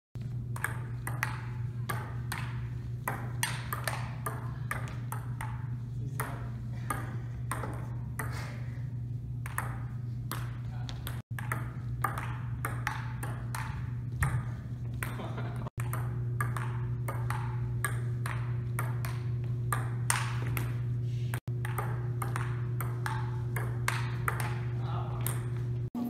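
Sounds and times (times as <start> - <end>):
steady low hum: 0.2 - 26.0
ping pong ball clicking: 0.5 - 8.5, 9.4 - 25.7.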